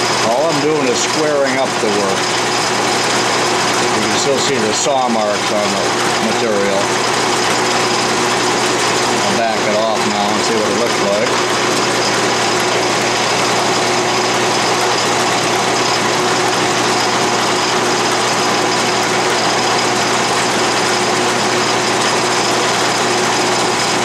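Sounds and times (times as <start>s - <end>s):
end mill cutting metal: 0.0s - 24.0s
lathe running: 0.0s - 24.0s.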